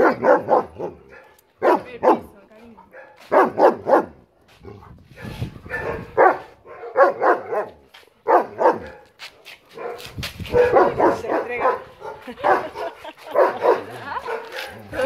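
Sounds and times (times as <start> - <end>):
dogs barking: 0.0 - 4.2, 5.2 - 9.1, 9.7 - 15.0.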